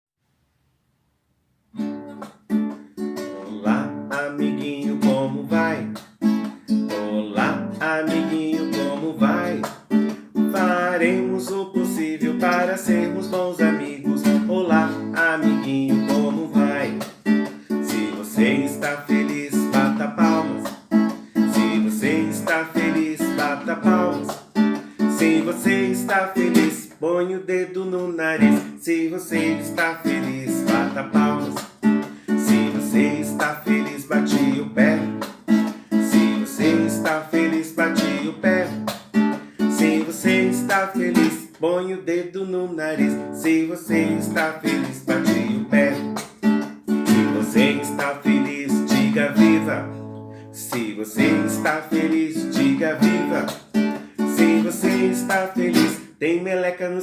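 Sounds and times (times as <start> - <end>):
strummed acoustic guitar: 1.7 - 57.0
person singing: 3.0 - 46.3, 46.9 - 57.0.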